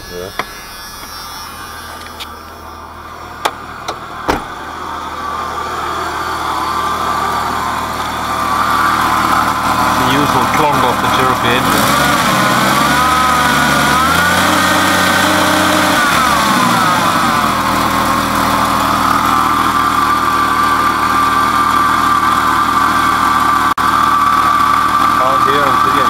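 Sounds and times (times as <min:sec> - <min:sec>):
car engine revving and idling: 0:00.0 - 0:26.0
high grinding whine: 0:00.0 - 0:26.0.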